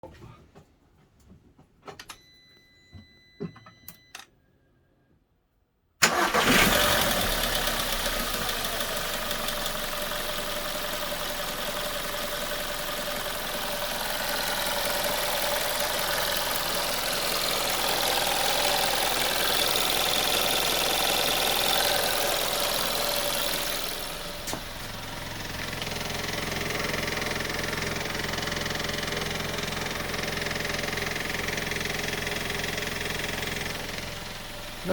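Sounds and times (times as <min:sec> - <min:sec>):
car engine starting and idling: 0:06.0 - 0:34.9.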